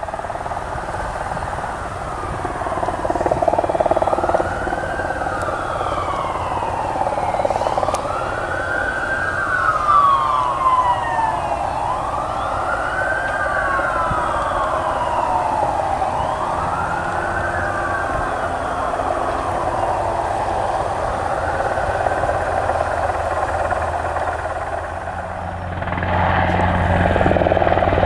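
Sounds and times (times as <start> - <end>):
emergency vehicle siren wailing: 0.0 - 28.0.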